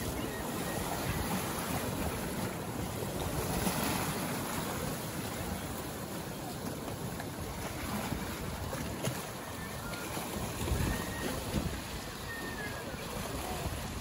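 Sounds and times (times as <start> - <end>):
waves splashing on rocky shore: 0.0 - 14.0.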